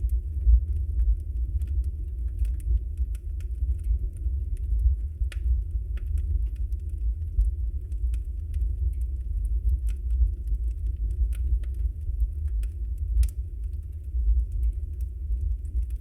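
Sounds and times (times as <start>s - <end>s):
fire crackles and pops: 0.0s - 16.0s
fire flames rumbling: 0.0s - 16.0s.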